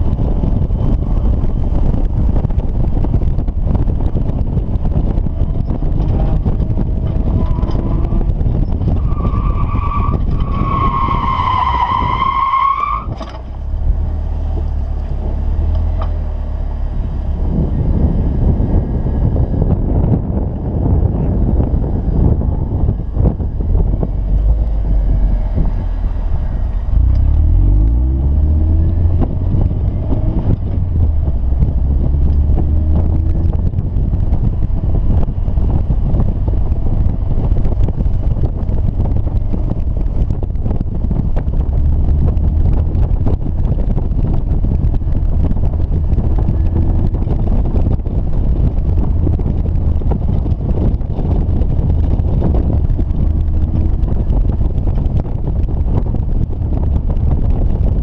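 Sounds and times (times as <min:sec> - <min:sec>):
car engine revving: 0:00.0 - 0:58.0
wind rumble on microphone: 0:00.0 - 0:58.0.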